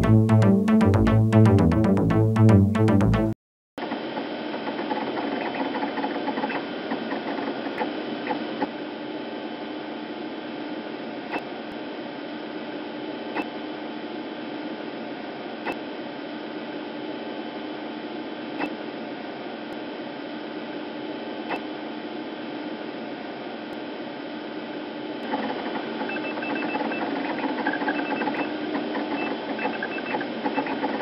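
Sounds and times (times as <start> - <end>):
mechanical whirring hum: 3.8 - 31.0.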